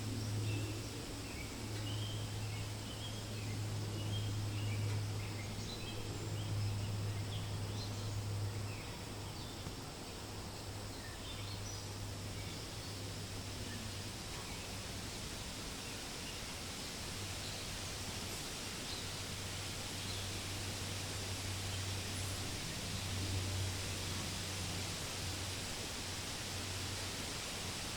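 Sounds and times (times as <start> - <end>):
wind rustling leaves: 0.0 - 27.9.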